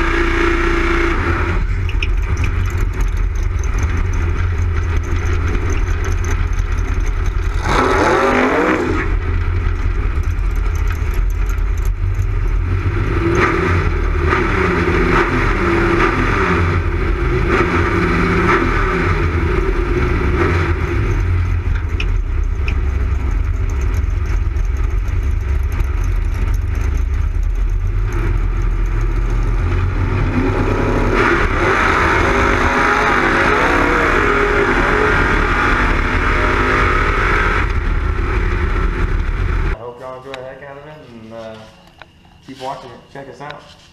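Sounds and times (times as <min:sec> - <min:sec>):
drag racing car engine revving: 0:00.0 - 0:39.8.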